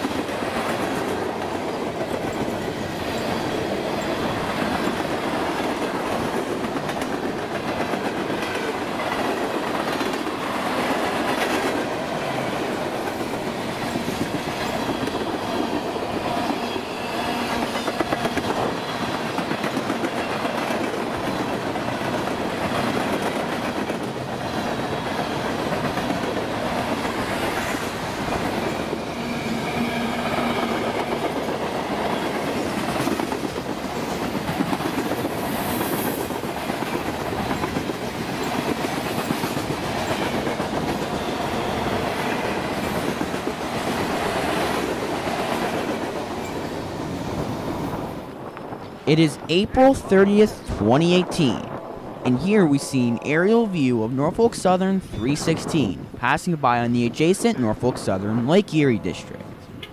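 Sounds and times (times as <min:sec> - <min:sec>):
steel wheels rumbling on rail: 0:00.0 - 0:49.0.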